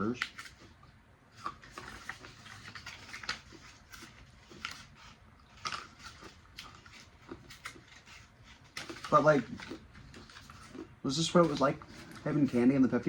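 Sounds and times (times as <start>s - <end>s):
person chewing crunchy candy: 1.3s - 12.4s.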